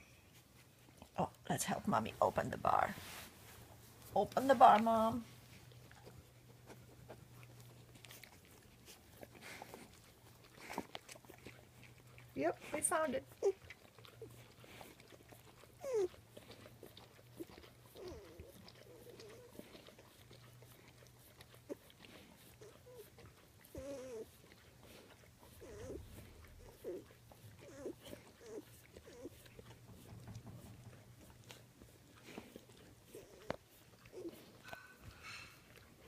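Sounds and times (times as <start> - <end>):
puppy whimpering and grunting: 4.2 - 36.0.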